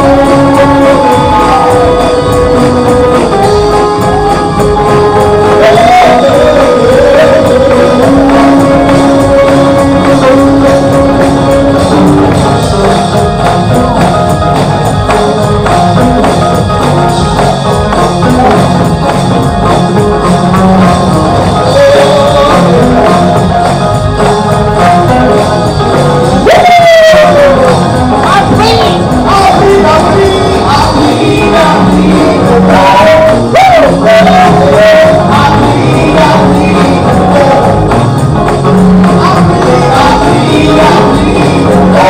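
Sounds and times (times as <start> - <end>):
person singing: 0.0 - 14.1, 20.5 - 42.0
gospel band playing: 0.0 - 42.0
tambourine shaking: 0.0 - 42.0.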